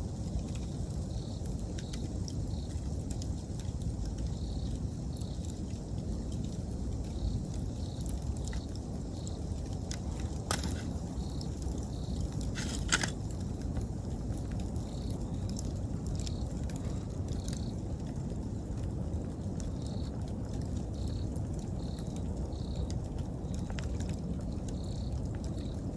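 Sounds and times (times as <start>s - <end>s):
campfire crackling and popping: 0.0s - 25.9s
insects chirping: 0.0s - 25.9s.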